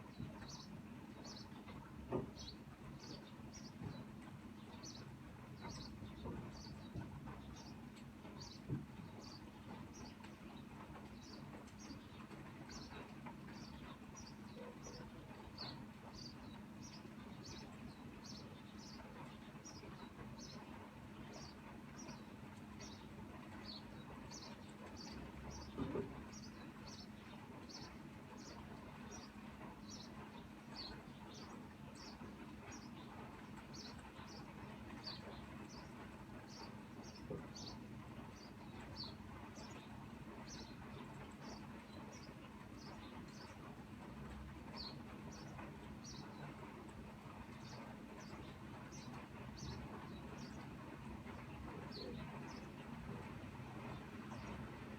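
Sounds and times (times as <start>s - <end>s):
light drizzling rain: 0.3s - 54.9s.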